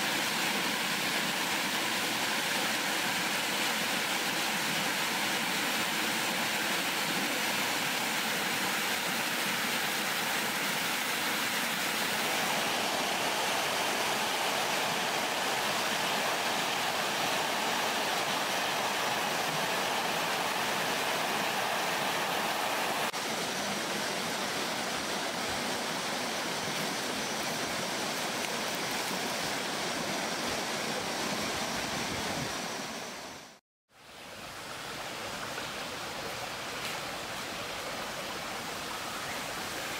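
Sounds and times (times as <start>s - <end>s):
waterfall rushing over rocks: 0.0s - 33.6s.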